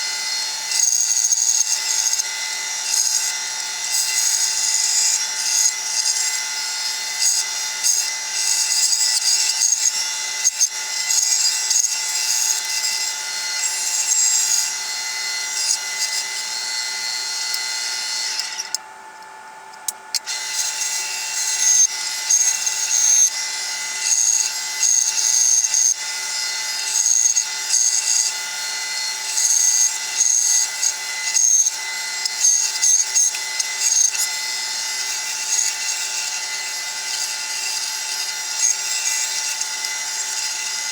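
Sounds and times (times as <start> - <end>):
saw blade cutting wood: 0.0 - 18.8, 20.2 - 40.9
bandsaw hum: 0.0 - 40.9.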